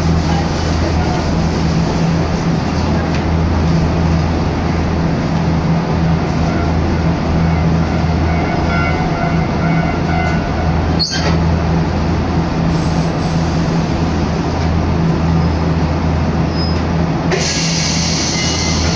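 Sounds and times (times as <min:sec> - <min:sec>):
train running rumble: 0:00.0 - 0:18.9.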